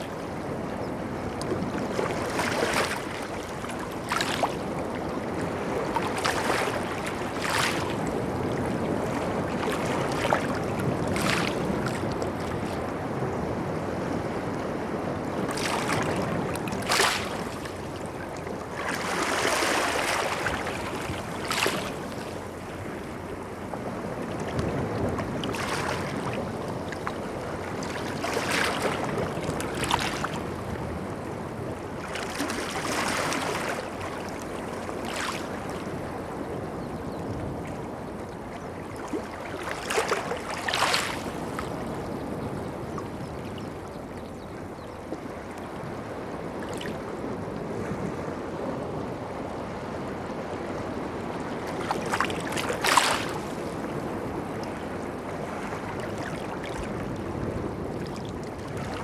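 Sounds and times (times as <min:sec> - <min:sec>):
waves breaking: 0:00.0 - 0:36.7, 0:37.4 - 0:43.2, 0:51.0 - 0:59.0.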